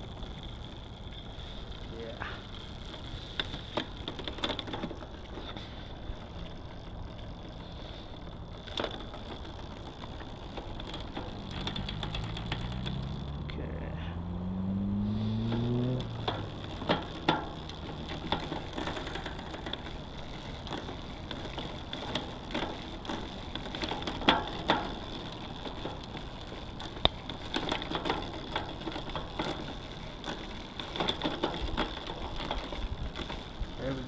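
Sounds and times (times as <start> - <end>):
irregular clicks and ticks: 0.0 - 13.3, 15.2 - 34.0
bike chain running over cassette: 0.0 - 34.0.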